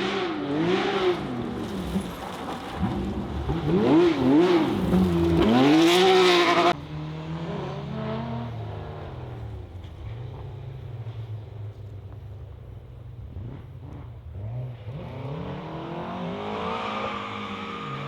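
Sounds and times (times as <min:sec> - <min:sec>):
rally car engine revving: 0:00.0 - 0:11.9, 0:13.3 - 0:18.0.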